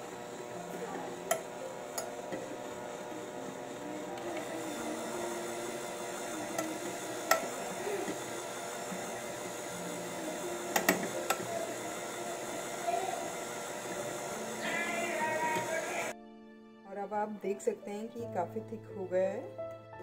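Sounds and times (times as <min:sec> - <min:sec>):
electric hand mixer running: 0:00.0 - 0:16.2.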